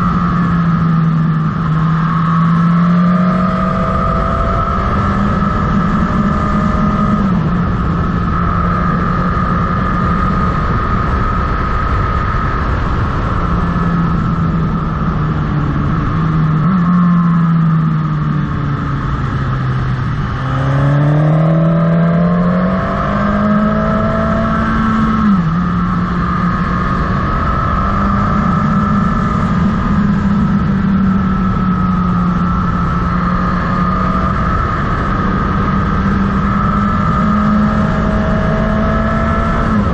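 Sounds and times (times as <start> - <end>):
motorcycle engine: 0.0 - 39.9
wind rushing past microphone: 0.0 - 39.9.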